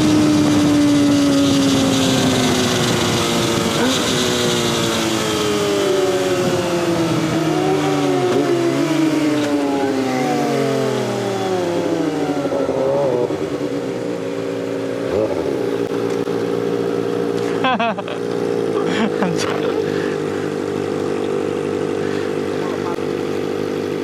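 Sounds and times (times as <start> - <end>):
motorcycle engine slowing: 0.0 - 24.0.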